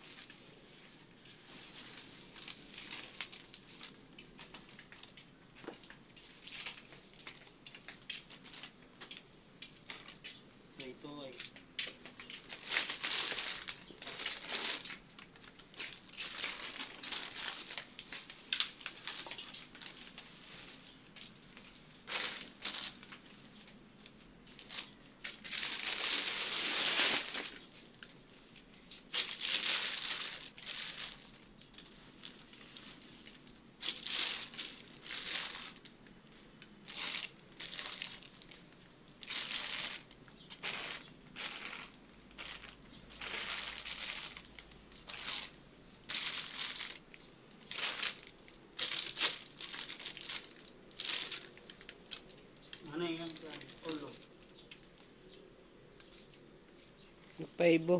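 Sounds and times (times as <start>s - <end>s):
plastic sheeting crinkling: 0.0s - 55.3s.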